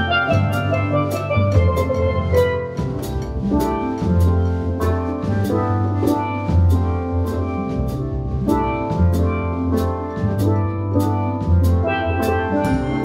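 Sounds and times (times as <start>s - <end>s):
low bass notes: 0.0s - 13.0s
steel pan melody: 0.0s - 13.0s.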